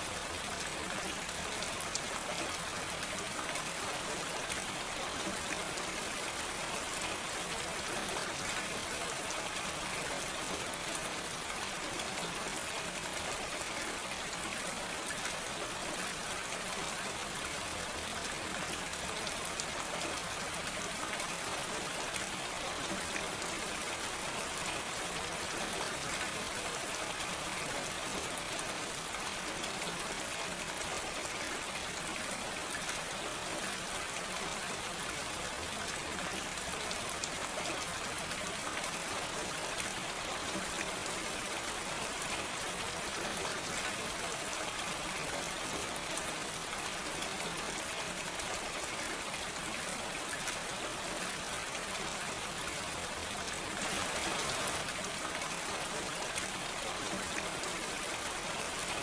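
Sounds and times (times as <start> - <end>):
gentle rain pattering: 0.0 - 59.0.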